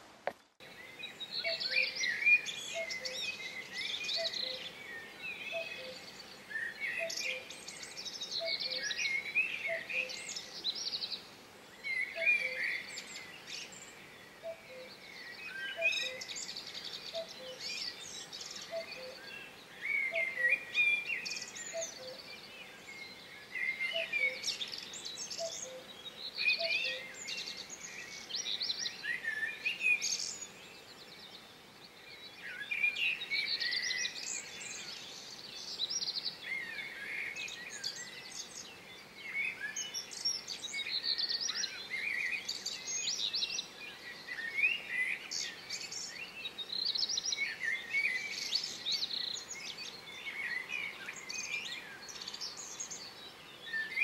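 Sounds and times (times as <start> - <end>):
songbirds warbling: 0.6 - 54.0.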